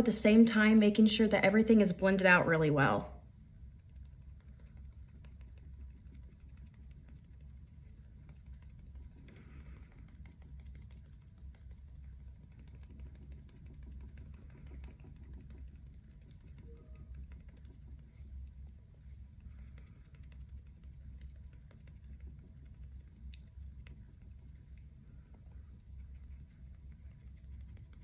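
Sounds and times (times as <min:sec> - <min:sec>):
low steady hum: 0:00.0 - 0:28.0
makeup sponge tapping skin: 0:03.8 - 0:28.0.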